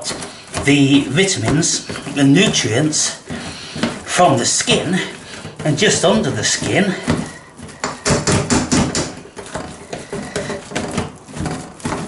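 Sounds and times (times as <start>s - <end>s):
potato masher knocking pan: 0.0s - 12.0s.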